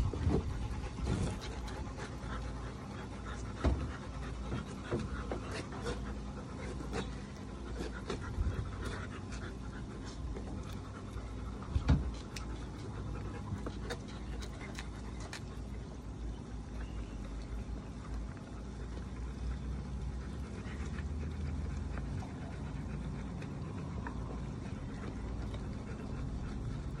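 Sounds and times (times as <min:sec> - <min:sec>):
large dog panting: 0:00.0 - 0:27.0.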